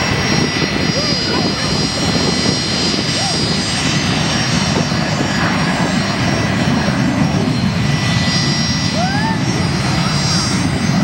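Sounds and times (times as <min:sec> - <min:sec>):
jet engines at taxi power: 0:00.0 - 0:11.0.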